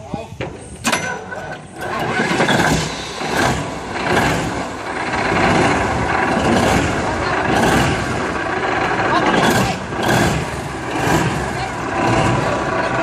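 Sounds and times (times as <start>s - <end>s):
big engine running: 0.5s - 13.0s.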